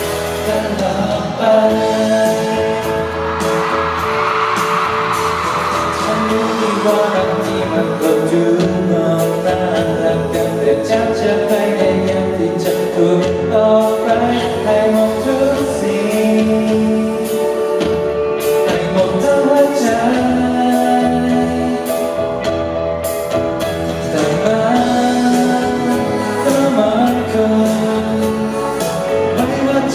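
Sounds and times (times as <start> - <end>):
man singing into a microphone: 0.0 - 4.0, 5.8 - 22.6, 23.7 - 29.9
piano: 0.0 - 29.9.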